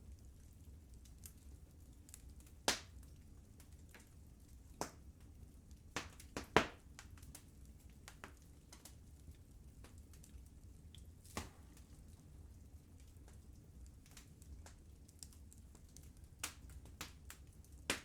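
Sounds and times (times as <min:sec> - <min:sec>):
low rumble of fire: 0:00.0 - 0:18.0
wood fire crackling and popping: 0:00.0 - 0:18.0.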